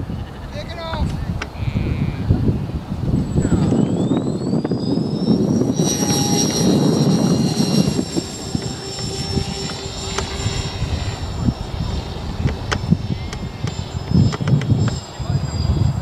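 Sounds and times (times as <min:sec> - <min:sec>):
low rumbling noise: 0:01.2 - 0:16.0
model plane motor whine: 0:01.4 - 0:16.0.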